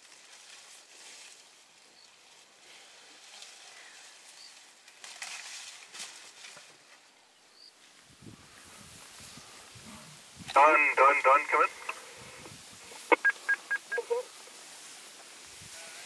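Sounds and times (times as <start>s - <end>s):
leaves and twigs rustling: 0.0s - 16.0s.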